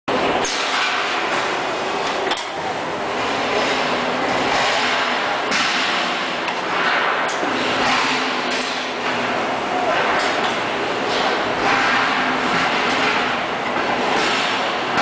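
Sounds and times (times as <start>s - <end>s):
industrial machinery hiss and hum: 0.1s - 15.0s.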